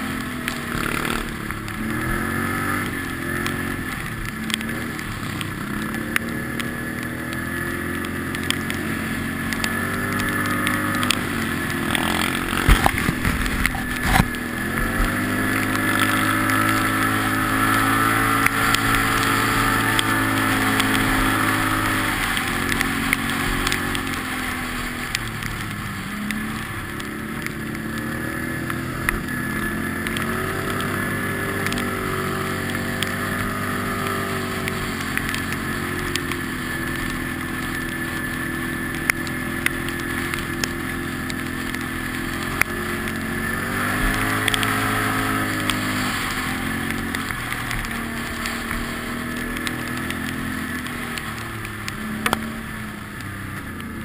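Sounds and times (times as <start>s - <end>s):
clicks and knocks over bumps: 0.0s - 54.0s
quad bike engine revving: 0.0s - 54.0s.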